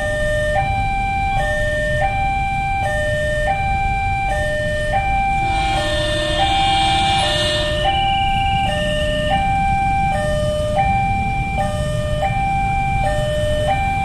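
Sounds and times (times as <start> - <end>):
two-tone crossing alarm: 0.0 - 14.0.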